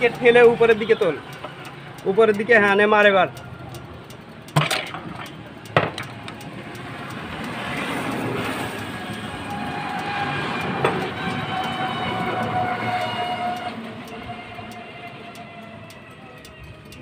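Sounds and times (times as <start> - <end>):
rushing mechanical noise with whine: 0.0 - 17.0.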